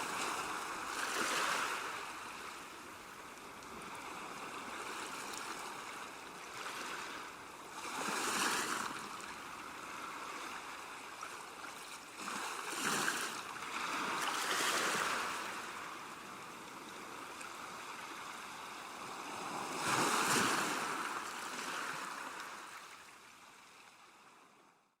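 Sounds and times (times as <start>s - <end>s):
sea waves breaking: 0.0s - 23.0s.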